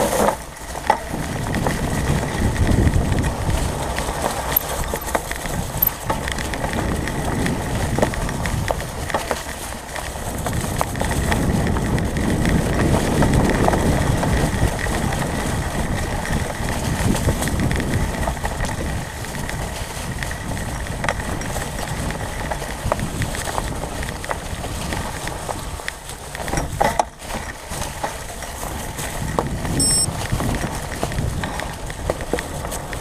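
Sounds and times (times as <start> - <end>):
bike rattling over bumps: 0.0 - 33.0
wind rumble on microphone: 0.0 - 33.0.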